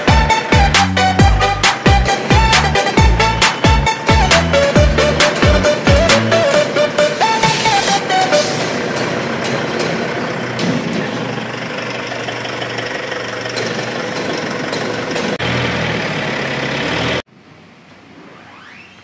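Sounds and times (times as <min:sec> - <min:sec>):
idling engine drone: 0:00.0 - 0:17.3.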